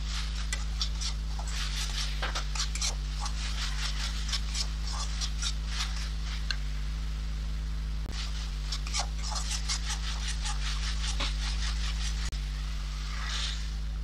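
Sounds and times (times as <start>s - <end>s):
metal spatula scraping a wok: 0.0s - 6.5s, 8.1s - 12.3s, 13.1s - 13.7s
steady low hum: 0.0s - 14.0s.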